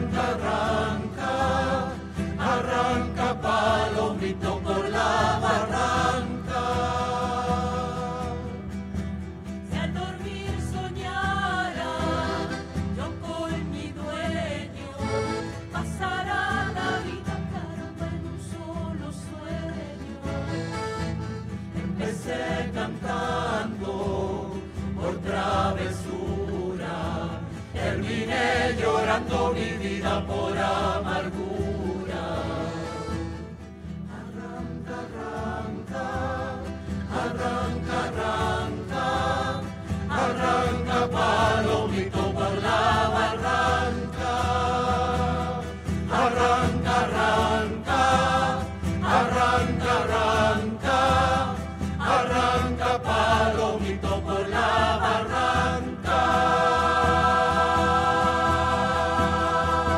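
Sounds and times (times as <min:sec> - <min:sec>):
accordion: 0:00.0 - 0:59.9
acoustic guitars: 0:00.0 - 0:59.9
group singing folk song: 0:00.0 - 0:59.9.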